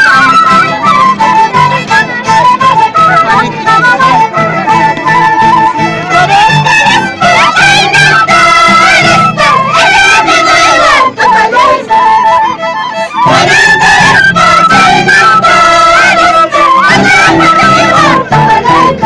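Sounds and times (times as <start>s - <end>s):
violin and harp folk music: 0.0s - 19.0s
women singing high-pitched: 3.3s - 19.0s.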